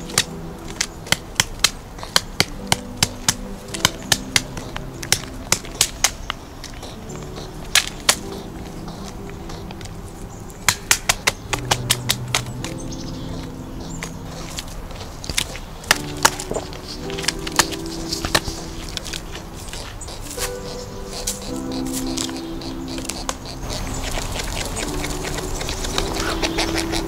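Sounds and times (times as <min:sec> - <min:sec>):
soft background music: 0:00.0 - 0:27.0
woodpecker pecking wood: 0:00.0 - 0:27.0.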